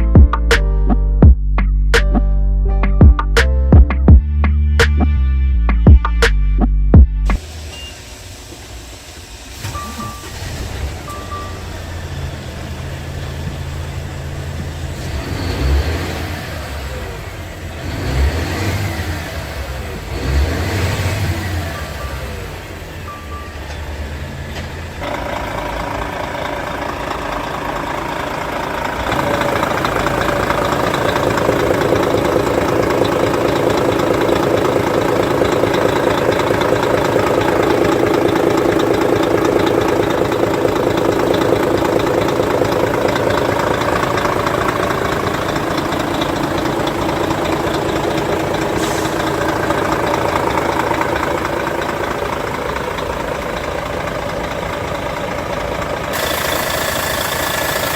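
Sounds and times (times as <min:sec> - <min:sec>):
diesel engine idling: 0:05.6 - 0:57.9.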